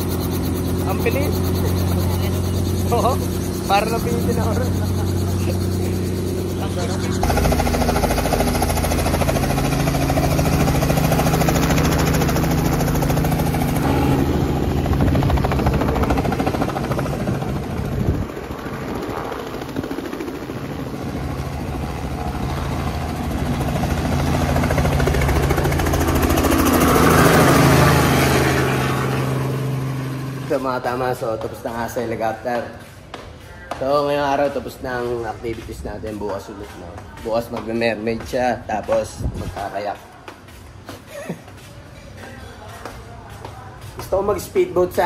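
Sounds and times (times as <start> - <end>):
helicopter rotor drone: 0.0 - 41.6.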